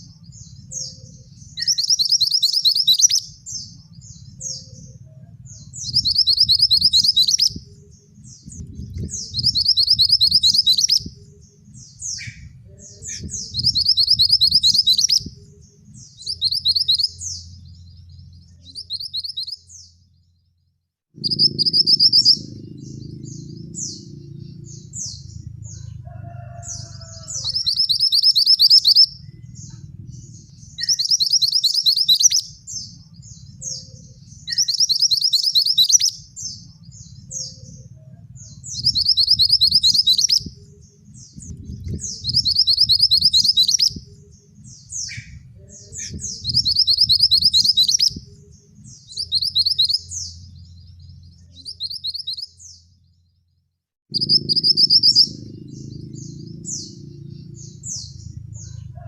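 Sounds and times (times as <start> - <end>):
songbird trilling song: 0.0 - 20.6, 21.2 - 59.0
low background rumble: 0.0 - 59.0.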